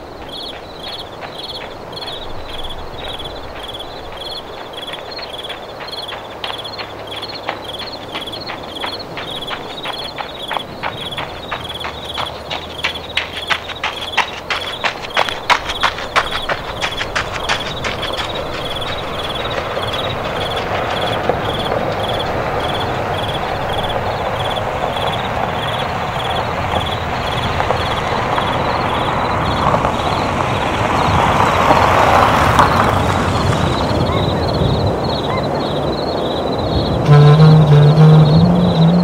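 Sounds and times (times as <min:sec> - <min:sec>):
crickets chirping: 0:00.0 - 0:39.0
rushing background noise: 0:00.0 - 0:39.0.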